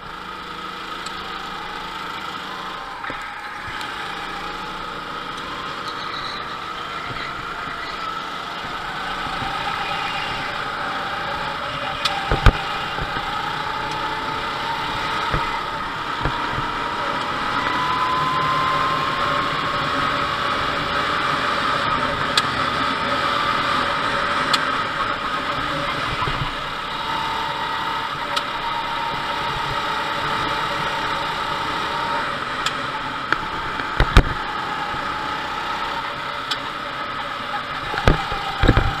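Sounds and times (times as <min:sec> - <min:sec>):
go-kart engine: 0:00.0 - 0:39.0.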